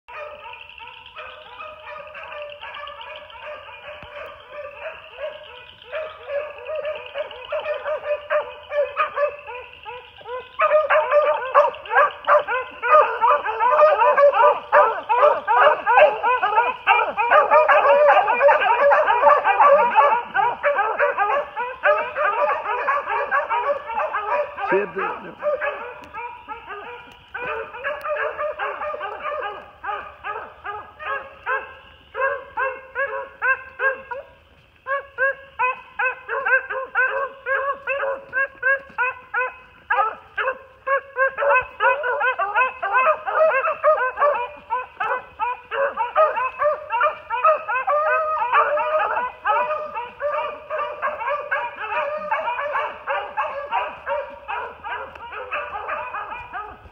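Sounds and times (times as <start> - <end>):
beagles baying: 0.1 - 56.9.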